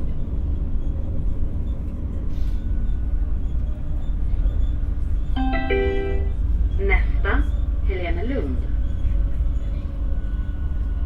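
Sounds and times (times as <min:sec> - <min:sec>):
train rumble on track: 0:00.0 - 0:11.0.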